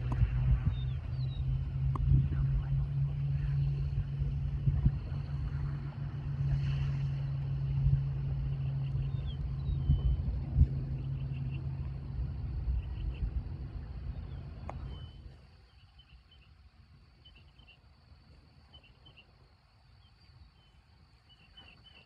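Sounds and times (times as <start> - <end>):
turboprop engines droning: 0.0 - 19.3
open-air ambience: 0.0 - 22.0.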